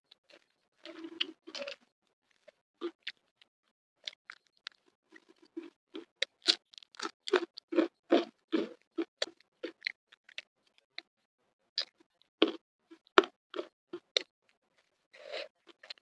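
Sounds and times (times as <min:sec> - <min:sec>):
chewing crispy fried food: 0:00.1 - 0:11.2, 0:11.8 - 0:16.0.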